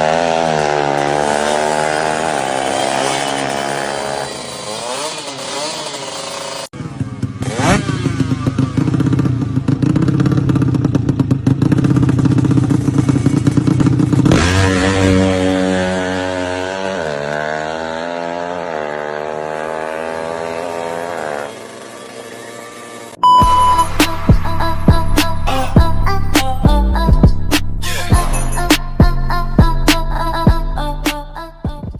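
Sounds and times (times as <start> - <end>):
motorcycle engine revving: 0.0 - 29.8.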